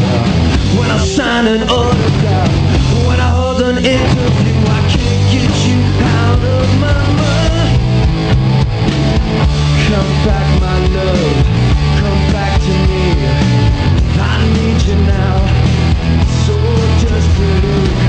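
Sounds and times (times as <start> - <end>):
person singing: 0.0 - 7.8, 9.7 - 18.0
drums: 0.0 - 18.0
electric guitar: 0.0 - 18.0.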